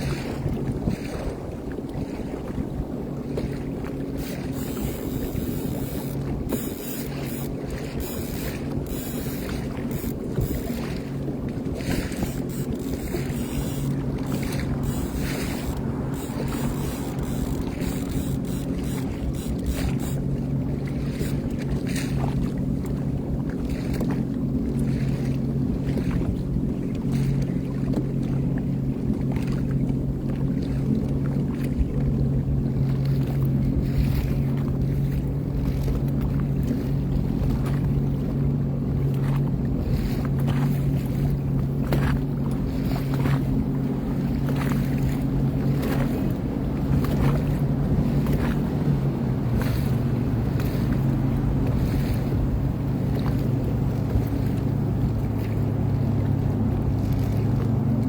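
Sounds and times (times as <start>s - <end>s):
water splashes: 0.0s - 58.0s
watercraft engine running: 0.0s - 58.0s
wind buffeting microphone: 0.0s - 58.0s.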